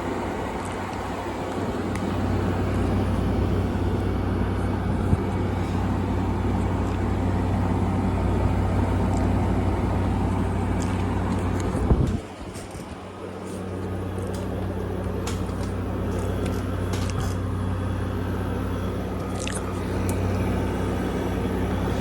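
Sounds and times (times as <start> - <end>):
air conditioner running: 0.0 - 22.0.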